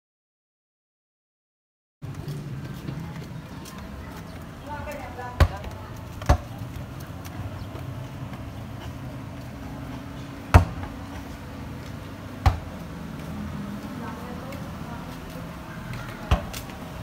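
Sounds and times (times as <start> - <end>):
steady low background noise: 2.0 - 17.0.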